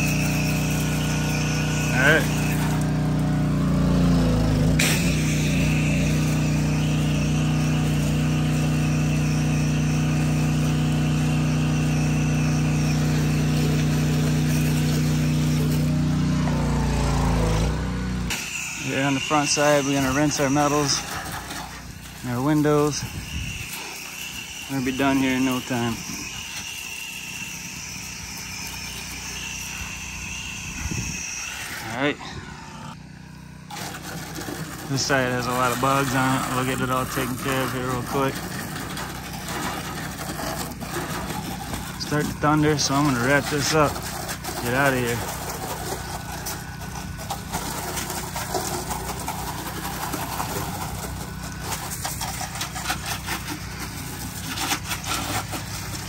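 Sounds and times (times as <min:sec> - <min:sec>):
pressure washer engine drone: 0:00.0 - 0:56.0
pressure washer jet hissing: 0:00.0 - 0:56.0.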